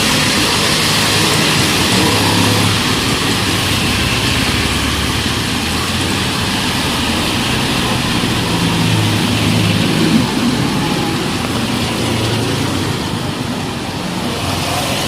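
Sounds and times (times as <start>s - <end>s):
rain hissing on wet road: 0.0s - 15.0s
vehicle engines running and idling: 0.0s - 15.0s.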